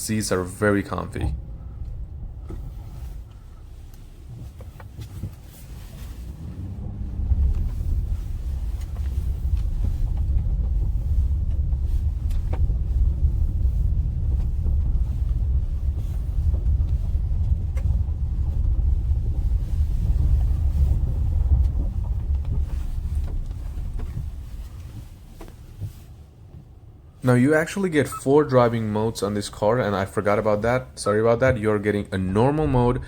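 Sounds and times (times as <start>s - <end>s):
low rumble inside moving vehicle: 0.0s - 33.0s.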